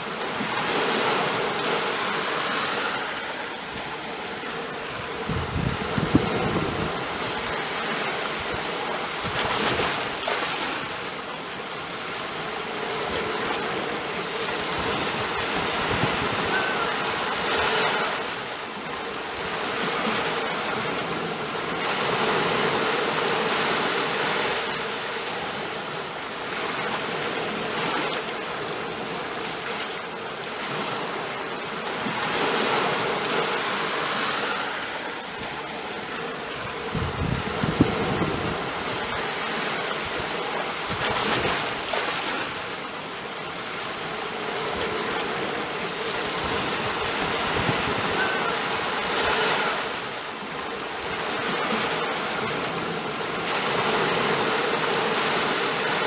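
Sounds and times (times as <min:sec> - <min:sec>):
sea waves washing in: 0:00.0 - 0:56.0.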